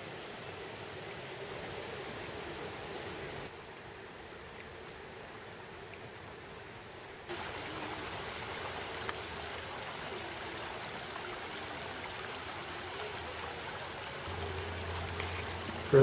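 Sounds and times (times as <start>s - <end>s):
stream babbling over rocks: 0.0s - 16.0s.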